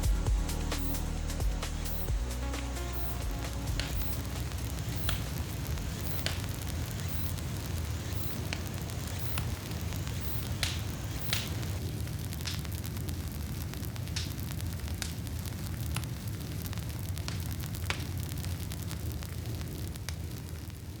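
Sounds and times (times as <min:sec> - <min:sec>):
steady low rumble: 0:00.0 - 0:20.1
campfire crackling: 0:00.0 - 0:21.0.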